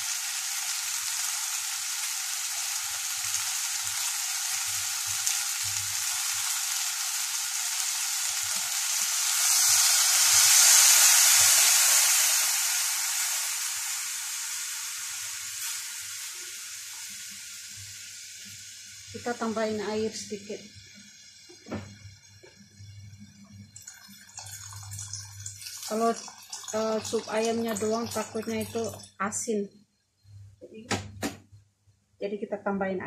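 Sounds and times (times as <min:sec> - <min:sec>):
broth poured into hot pan: 0:00.0 - 0:29.2
vegetables sizzling in butter: 0:00.0 - 0:29.6.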